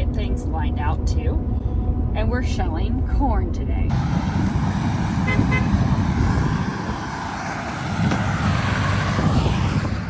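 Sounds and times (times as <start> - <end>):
vehicle rumble from inside cab: 0.0 - 10.0.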